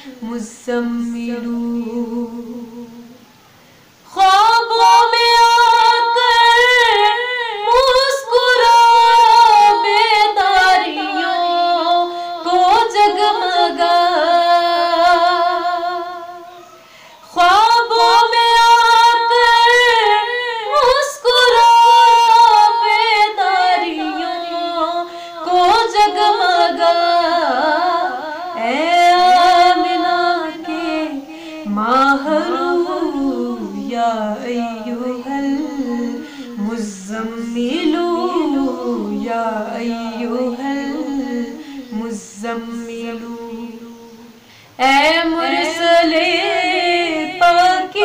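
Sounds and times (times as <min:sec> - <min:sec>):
woman singing unaccompanied: 0:00.0 - 0:48.0.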